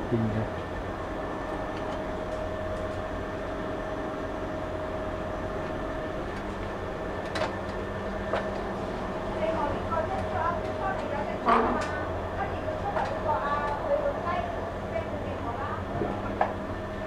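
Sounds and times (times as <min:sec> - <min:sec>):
machinery hum with faint whine: 0:00.0 - 0:17.0.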